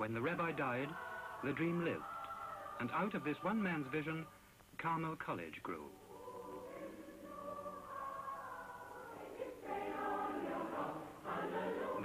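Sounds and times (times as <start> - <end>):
choir singing held chords: 0.0 - 4.5, 5.8 - 12.0.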